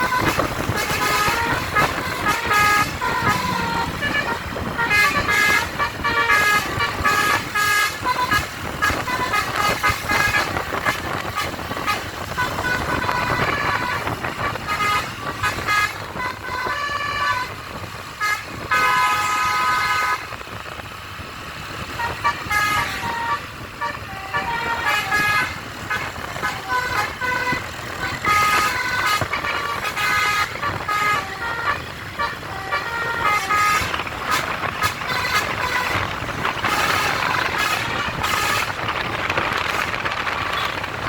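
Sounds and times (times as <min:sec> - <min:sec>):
musical air horn toots: 0:00.0 - 0:20.4, 0:21.8 - 0:40.8.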